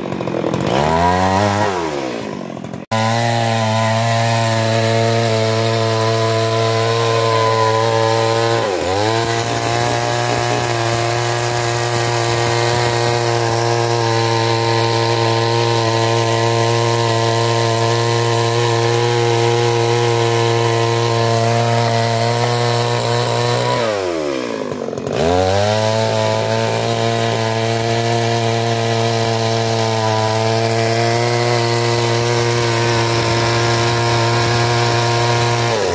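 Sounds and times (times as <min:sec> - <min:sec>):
chainsaw cutting through log: 0:00.0 - 0:35.9.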